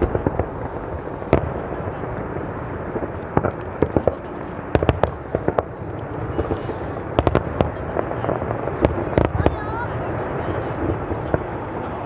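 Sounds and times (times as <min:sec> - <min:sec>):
fireworks cracks and pops: 0:00.0 - 0:09.9
fireworks rumbling: 0:00.0 - 0:12.0.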